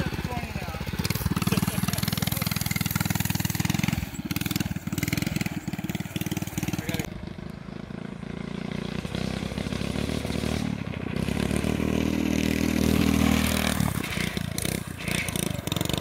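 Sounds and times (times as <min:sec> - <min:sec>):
small engine under throttle: 0:00.0 - 0:16.0
wheels scraping over asphalt: 0:00.0 - 0:16.0.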